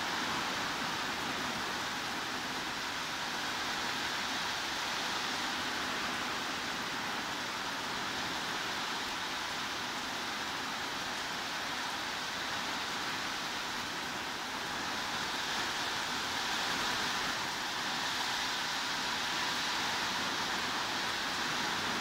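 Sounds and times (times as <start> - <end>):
heavy rain hiss: 0.0 - 22.0.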